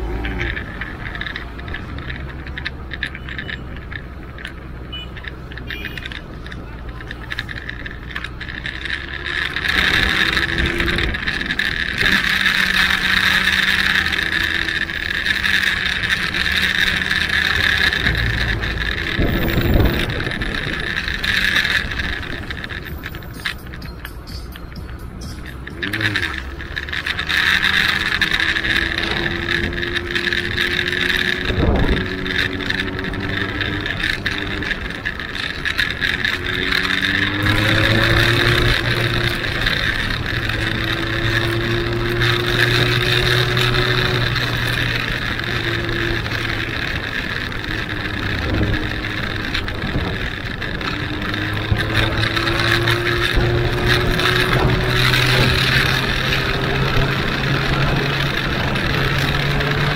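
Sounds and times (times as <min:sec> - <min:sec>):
motorcycle engine revving: 0:00.0 - 0:59.9
wind and road hiss: 0:08.3 - 0:23.8, 0:25.8 - 0:59.9.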